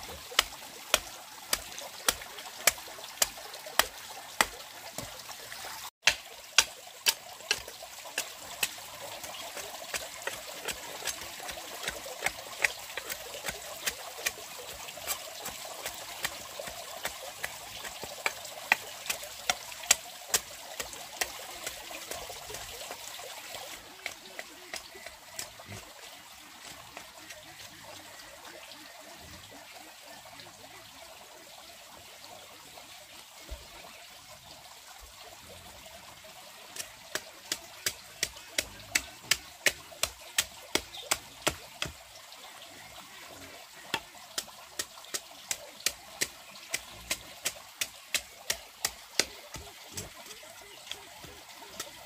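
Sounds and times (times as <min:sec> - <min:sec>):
water trickling: 0:00.0 - 0:52.0.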